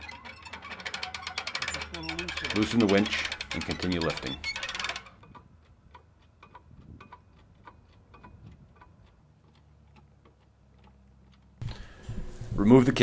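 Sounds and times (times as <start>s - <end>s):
mechanical clicks of hand crank: 0.0s - 11.8s.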